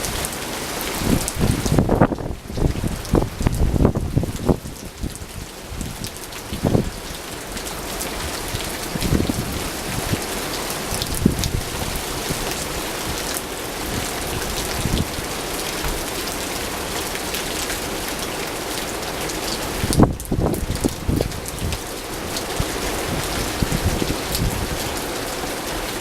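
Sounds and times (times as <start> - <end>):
wind buffeting microphone: 0.0 - 7.1, 8.1 - 16.3, 19.6 - 26.0
heavy rain pattering: 0.0 - 26.0.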